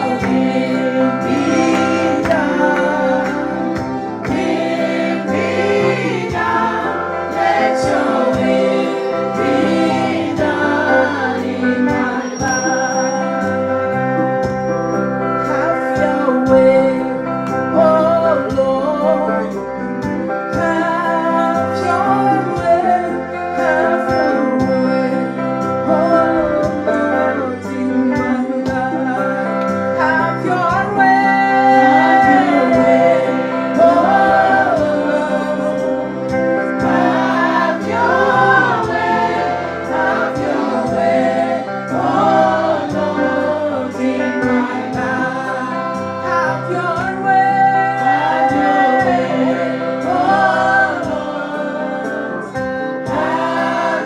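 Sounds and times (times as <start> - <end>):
instrumental accompaniment: 0.0 - 54.0
women's choir singing gospel: 0.0 - 54.0.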